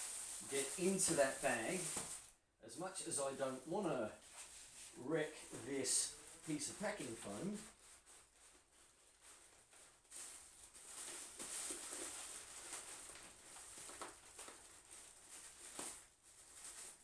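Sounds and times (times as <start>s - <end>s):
plastic bag and foam rustling: 0.0s - 17.0s.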